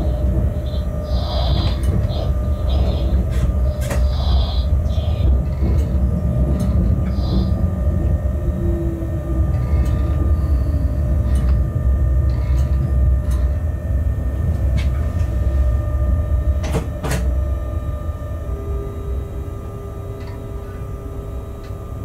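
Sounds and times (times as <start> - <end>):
locomotive rumbling: 0.0 - 17.7
faint humming tones: 0.0 - 22.0.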